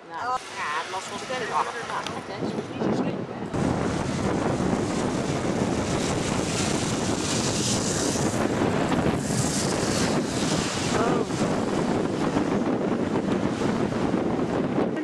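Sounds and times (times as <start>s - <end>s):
wind buffeting microphone: 0.4s - 15.0s.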